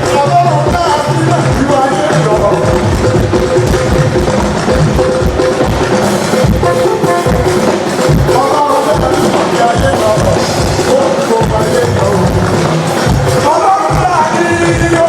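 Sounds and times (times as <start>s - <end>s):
held instrumental tones: 0.0s - 15.0s
steady drum beat: 0.0s - 15.0s.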